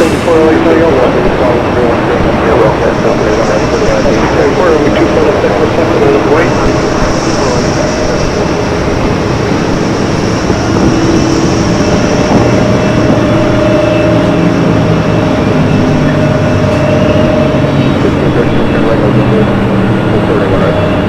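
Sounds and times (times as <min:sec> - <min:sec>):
heavy vehicle engine rumbling: 0:00.0 - 0:21.0
steady droning tone: 0:00.0 - 0:21.0.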